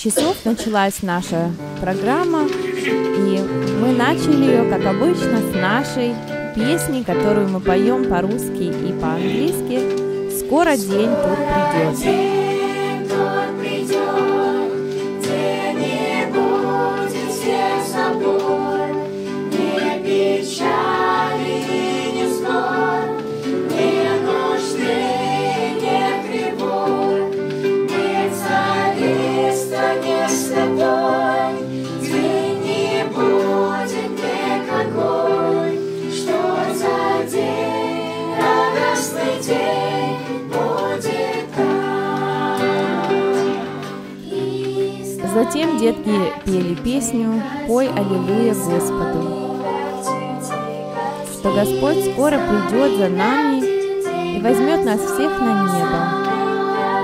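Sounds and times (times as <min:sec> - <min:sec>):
group singing in unison: 0:09.0 - 0:57.0.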